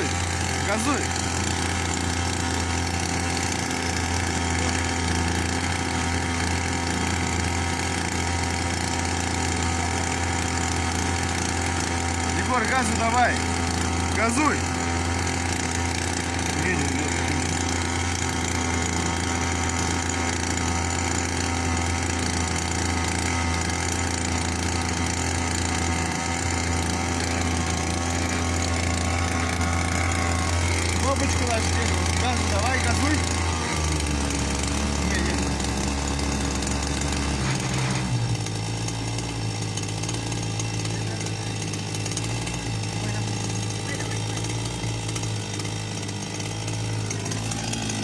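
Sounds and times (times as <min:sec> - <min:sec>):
small boat motor running: 0:00.0 - 0:48.0.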